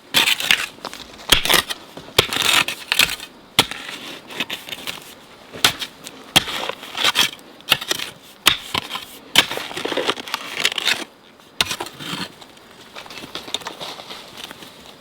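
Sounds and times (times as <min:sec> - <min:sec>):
crunching and crackling: 0:00.2 - 0:15.0.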